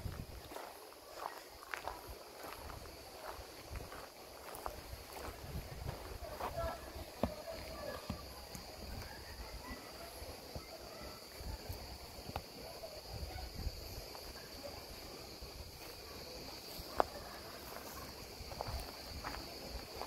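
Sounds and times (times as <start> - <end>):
footsteps on forest path: 0.0 - 12.6, 14.1 - 20.0
insects chirring: 0.0 - 20.0.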